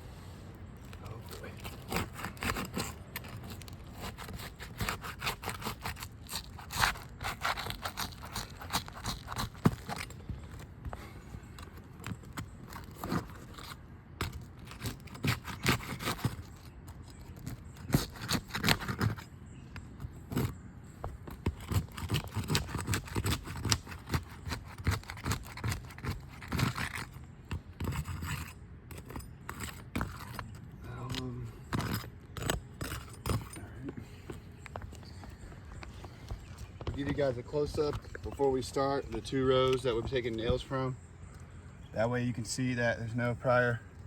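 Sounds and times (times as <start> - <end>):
metal tools scraping shingles: 0.8 - 19.3, 21.4 - 41.0.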